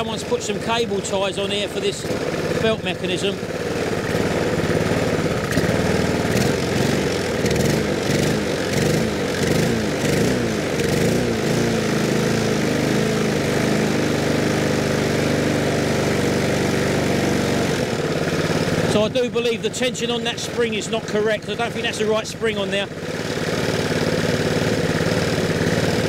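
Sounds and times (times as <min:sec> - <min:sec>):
lawnmower engine surging: 0:00.0 - 0:26.0.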